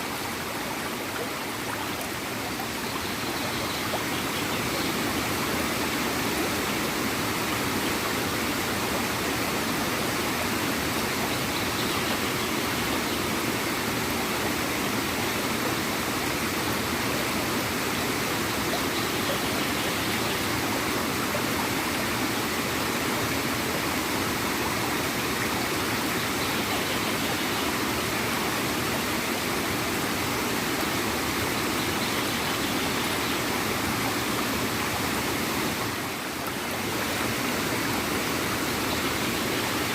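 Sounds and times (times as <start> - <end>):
stream water flowing and gurgling: 0.0 - 39.9.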